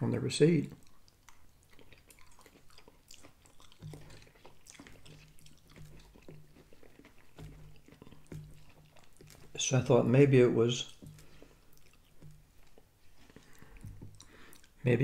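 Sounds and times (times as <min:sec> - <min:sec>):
man chewing food: 0:00.6 - 0:15.0.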